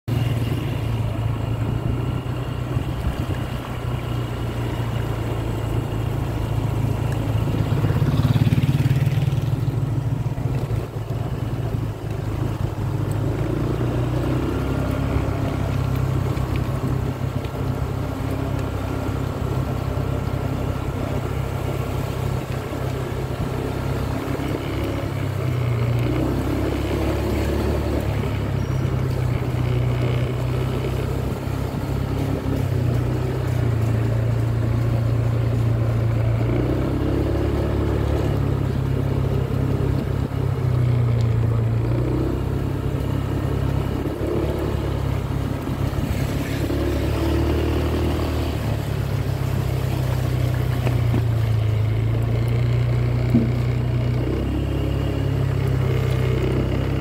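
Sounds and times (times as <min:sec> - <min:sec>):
small motorcycle engine running: 0:00.0 - 0:57.0
wind and road noise: 0:00.0 - 0:57.0.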